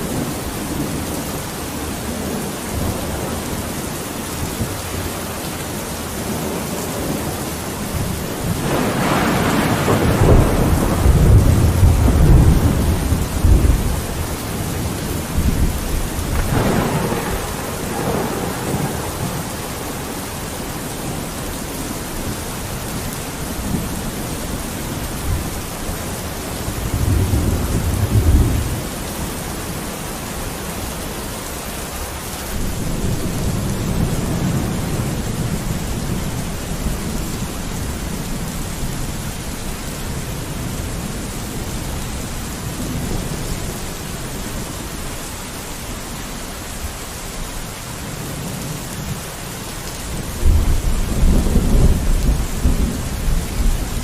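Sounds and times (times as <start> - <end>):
thunder rumbling: 0.0 - 30.5, 32.4 - 46.0, 49.9 - 54.0
steady rain: 0.0 - 54.0.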